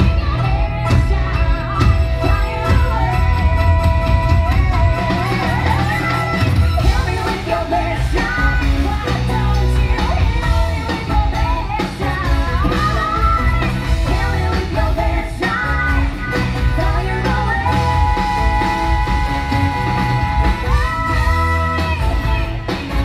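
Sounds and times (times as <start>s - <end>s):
electric guitars: 0.0s - 23.0s
live rock band playing: 0.0s - 23.0s
person singing: 0.0s - 23.0s.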